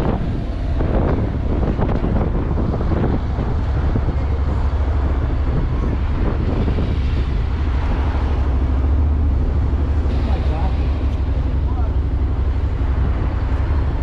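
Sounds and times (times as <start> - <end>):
motorcycle engine and road rumble: 0.0 - 14.0
wind buffeting microphone: 0.0 - 14.0.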